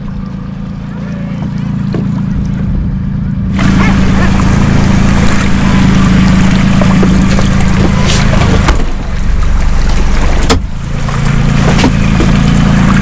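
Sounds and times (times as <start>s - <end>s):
boat engine running: 0.0s - 13.0s
rush of wind and water: 0.0s - 13.0s.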